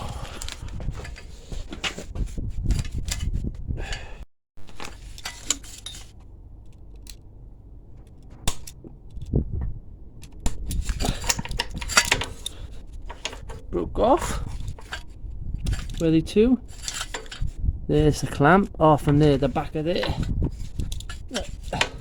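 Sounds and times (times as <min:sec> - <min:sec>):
tools and metal parts clinking: 0:00.4 - 0:03.4, 0:04.6 - 0:09.4, 0:10.1 - 0:22.0.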